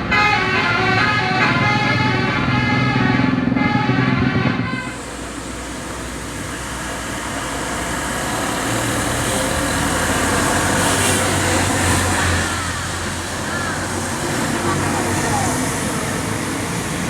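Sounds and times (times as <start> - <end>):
tyre and road noise: 0.0 - 17.0.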